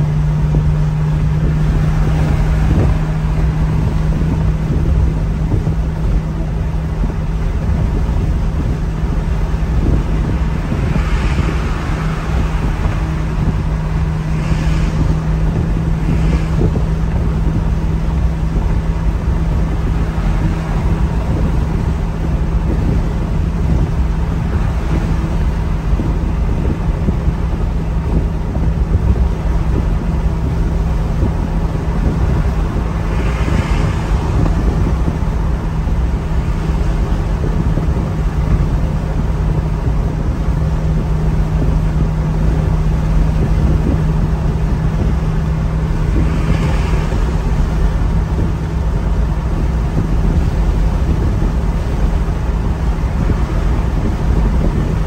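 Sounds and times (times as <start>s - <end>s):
low engine drone: 0.0s - 55.0s
road and tyre noise: 0.0s - 55.0s.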